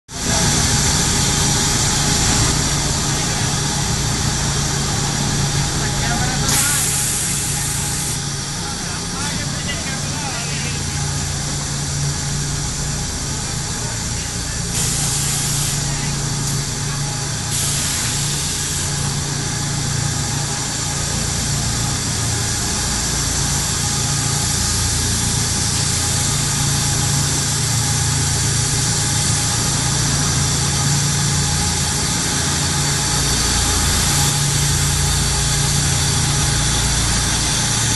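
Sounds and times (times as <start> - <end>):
industrial machinery drone: 0.1 - 37.9
machine hiss: 0.2 - 8.7, 14.2 - 37.9.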